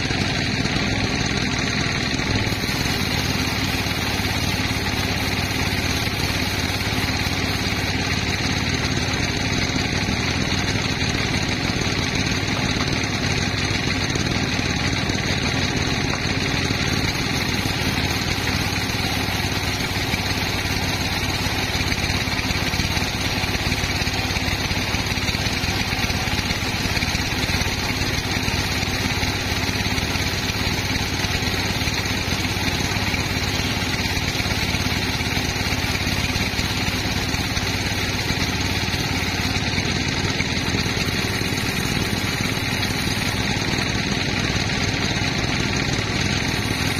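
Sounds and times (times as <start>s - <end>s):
sawmill machinery drone: 0.0s - 46.9s.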